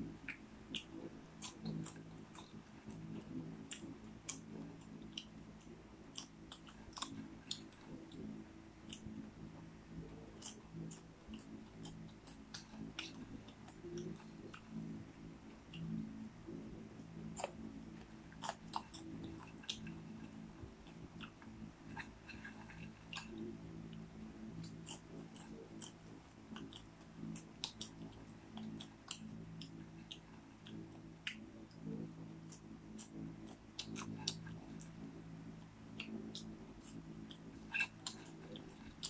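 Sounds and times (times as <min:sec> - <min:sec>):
low hum: 0:00.0 - 0:39.0
person chewing popcorn: 0:00.0 - 0:39.0.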